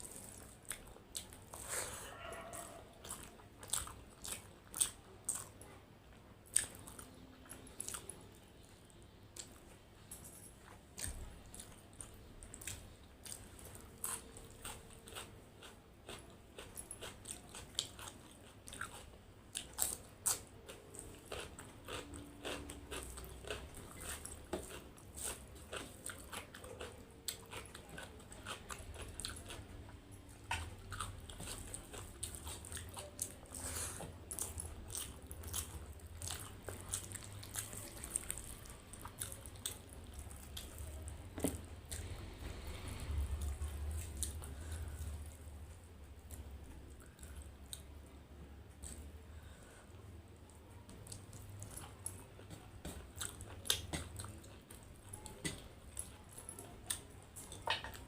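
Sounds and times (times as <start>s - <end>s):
close chewing and crunching: 0.0s - 5.8s, 6.4s - 58.0s.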